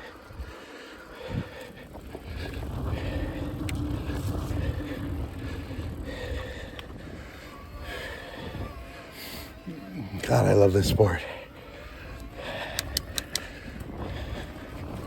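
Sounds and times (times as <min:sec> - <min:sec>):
bike rattles and clicks: 0:00.0 - 0:15.0
faint steady hum: 0:00.0 - 0:15.0
tyres rumbling on dirt trail: 0:00.0 - 0:15.0.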